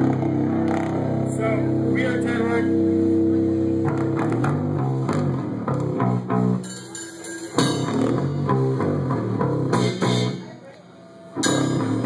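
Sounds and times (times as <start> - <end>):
metal band playing heavy riff: 0.0 - 10.4, 11.4 - 12.0.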